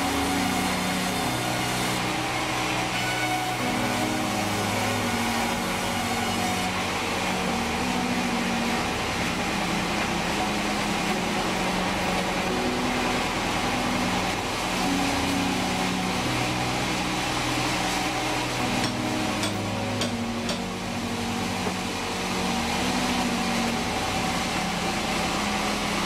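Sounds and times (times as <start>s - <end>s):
band saw running: 0.0s - 26.0s.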